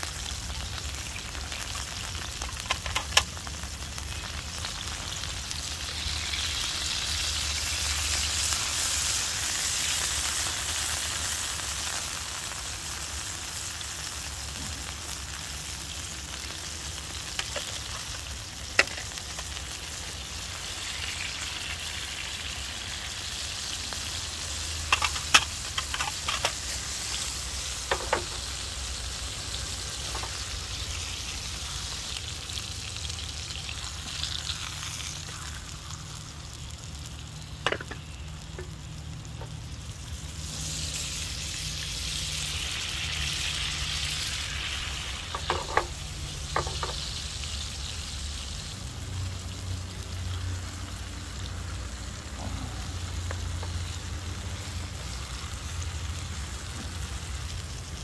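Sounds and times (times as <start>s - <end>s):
meat sizzling in a pan: 0.0s - 58.0s.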